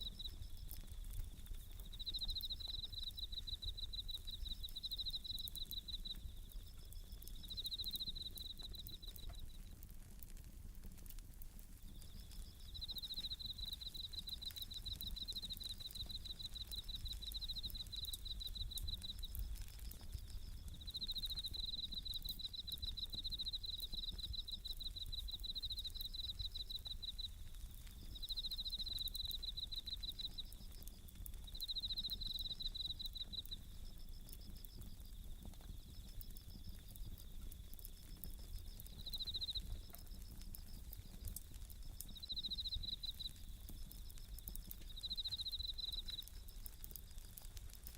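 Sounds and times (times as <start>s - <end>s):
crickets pulsing trills: 0.0s - 9.8s, 11.7s - 47.9s
wood fire crackling clicks: 0.0s - 47.9s.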